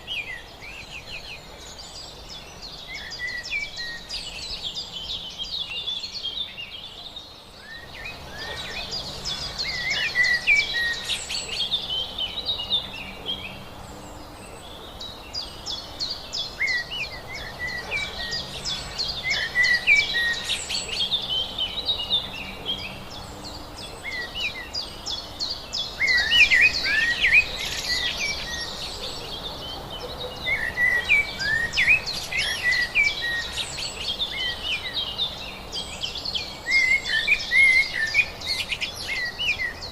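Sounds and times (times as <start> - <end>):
birds chirping and singing: 0.0 - 39.9
steady background hiss: 0.0 - 39.9.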